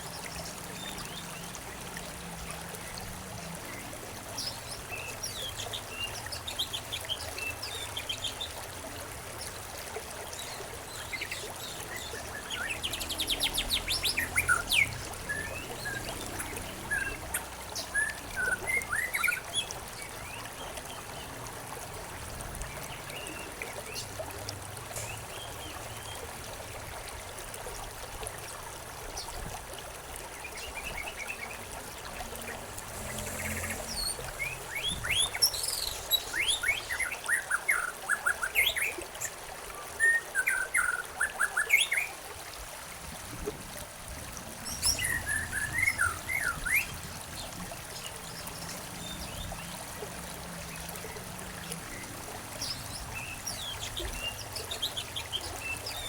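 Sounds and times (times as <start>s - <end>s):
trickling stream: 0.0s - 56.0s.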